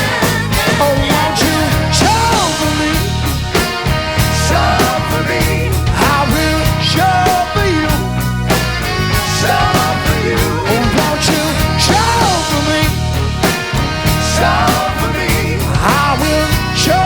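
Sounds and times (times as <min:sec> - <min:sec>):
lead melody line: 0:00.0 - 0:17.0
rock band playing live: 0:00.0 - 0:17.0.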